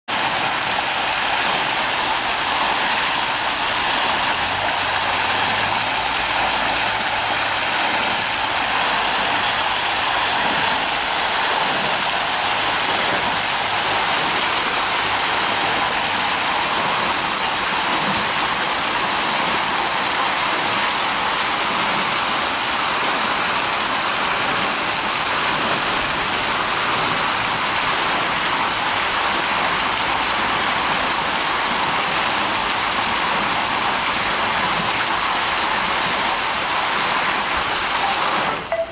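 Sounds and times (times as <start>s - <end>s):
fountain water splashing: 0.1s - 38.9s.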